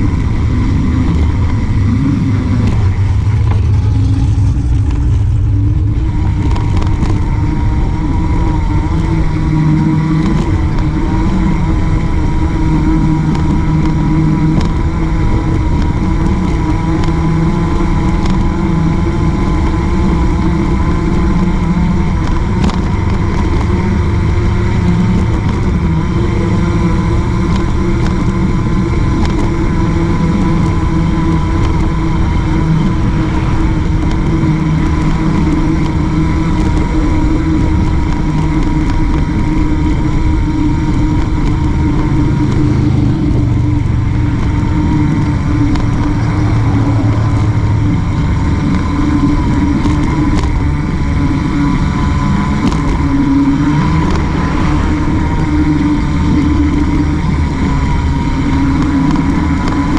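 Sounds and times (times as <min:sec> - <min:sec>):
constant hum: 0:00.0 - 0:59.9
passing car traffic: 0:00.0 - 0:59.9
wind on camera: 0:00.0 - 0:59.9.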